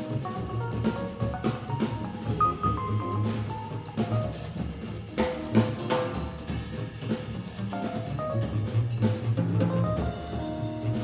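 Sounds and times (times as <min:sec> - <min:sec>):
double bass notes: 0:00.0 - 0:11.0
drum kit with cymbals: 0:00.0 - 0:11.0
piano: 0:00.0 - 0:11.0.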